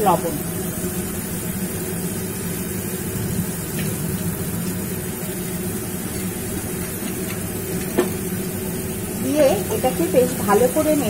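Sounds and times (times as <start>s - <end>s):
low even hum: 0.0s - 11.0s
onion and tomato frying in oil: 0.0s - 11.0s.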